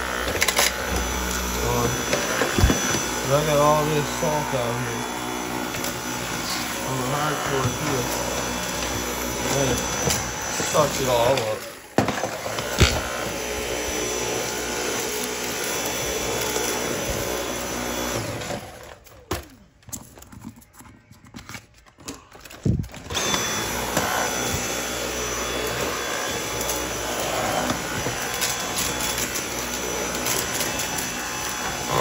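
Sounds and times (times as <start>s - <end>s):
vacuum cleaner motor whine: 0.0s - 19.2s, 22.9s - 32.0s.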